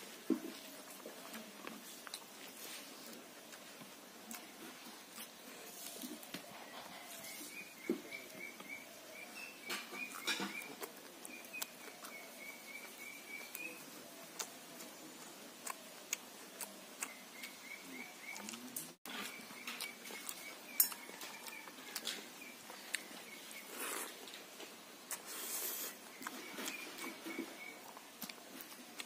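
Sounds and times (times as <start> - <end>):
person chewing: 0.5 - 8.8, 9.8 - 24.3, 25.0 - 29.0.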